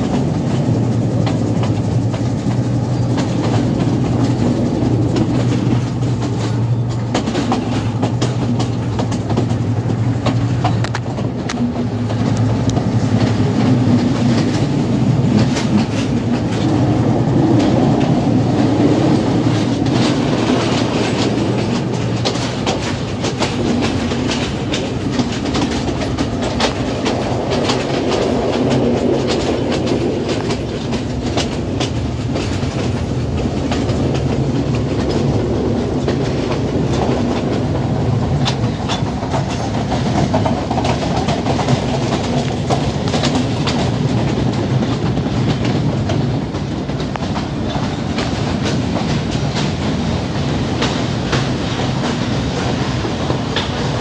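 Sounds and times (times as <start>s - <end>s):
train rumbling: 0.0s - 54.0s
train wheels clattering over joints: 0.0s - 54.0s.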